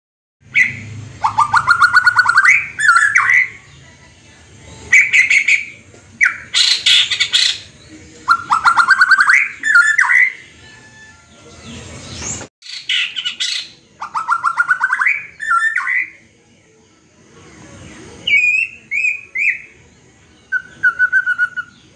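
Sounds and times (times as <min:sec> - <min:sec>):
high bird chirping: 0:00.4 - 0:03.8, 0:04.7 - 0:16.2, 0:18.2 - 0:21.9
bird singing: 0:00.4 - 0:03.9, 0:04.7 - 0:16.2, 0:18.2 - 0:21.9.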